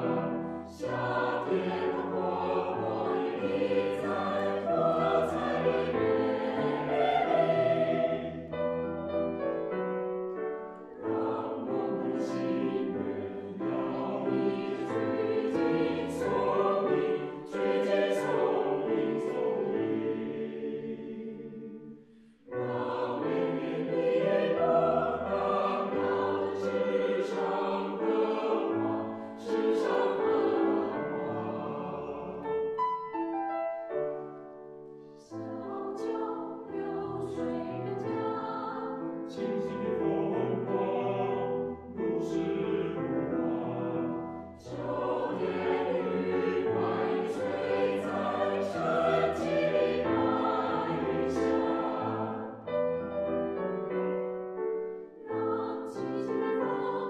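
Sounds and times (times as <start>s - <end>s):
piano accompaniment: 0.0s - 20.8s, 22.6s - 57.0s
mixed choir singing in harmony: 0.0s - 57.0s.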